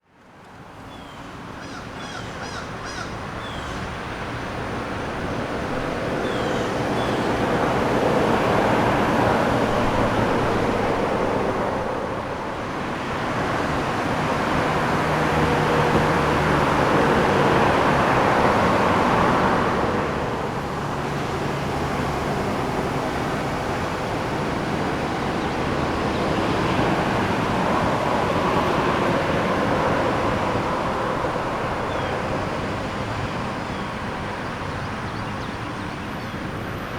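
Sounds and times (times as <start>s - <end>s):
cars passing: 0.4s - 36.9s.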